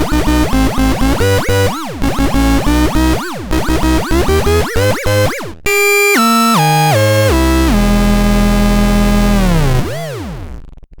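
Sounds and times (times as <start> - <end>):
buzzy synthesizer tone: 0.0 - 10.6.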